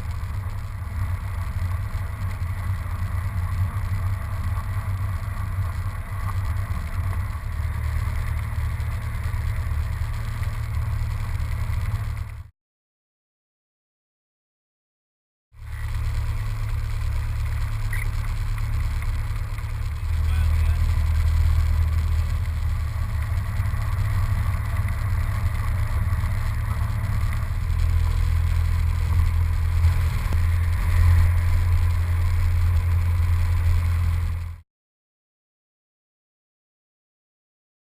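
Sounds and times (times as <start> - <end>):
low engine drone: 0.0 - 12.5, 15.6 - 34.6.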